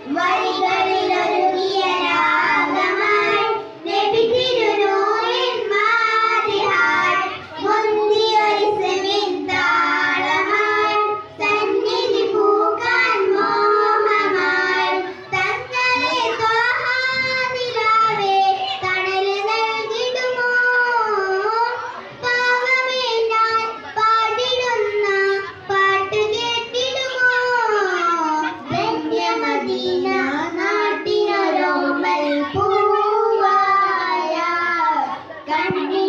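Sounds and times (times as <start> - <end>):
child singing: 0.0 - 36.0.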